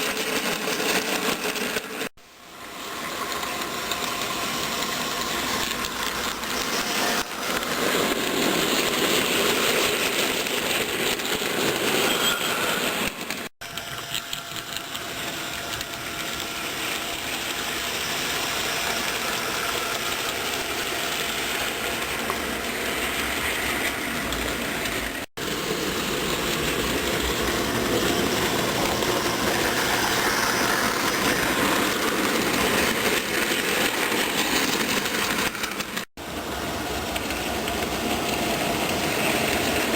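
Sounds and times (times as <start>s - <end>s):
model train running noise: 0.0s - 39.9s.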